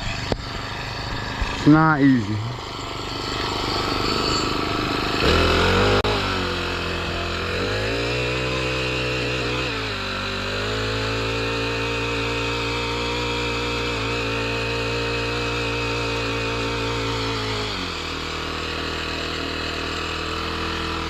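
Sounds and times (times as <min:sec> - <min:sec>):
garden tiller engine running: 0:00.0 - 0:21.0.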